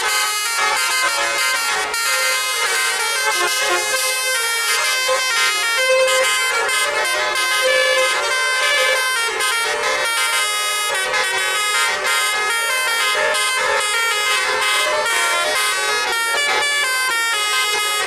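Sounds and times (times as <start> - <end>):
multi-tone bus horn melody: 0.0 - 18.0.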